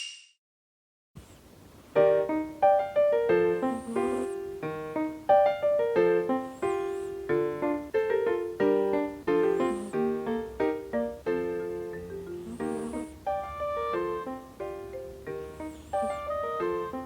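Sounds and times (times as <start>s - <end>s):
light piano keyboard tune: 1.5s - 17.0s.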